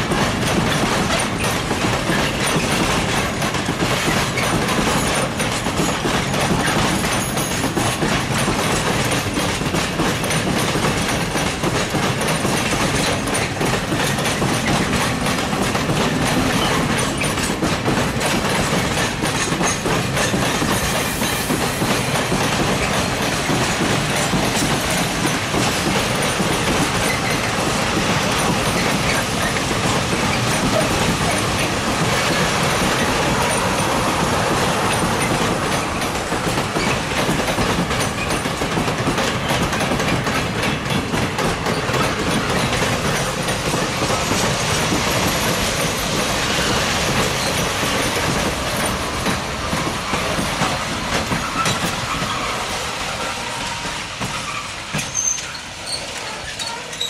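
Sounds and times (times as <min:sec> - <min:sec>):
freight train rumbling and rattling: 0:00.0 - 0:57.0
wheels clacking over rail joints: 0:00.0 - 0:57.0.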